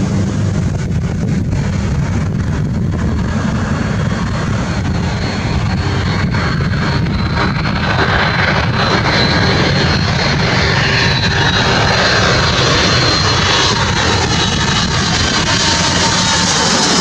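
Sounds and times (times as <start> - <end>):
high jet whine: 0.0 - 17.0
jet engine rumble: 0.0 - 17.0.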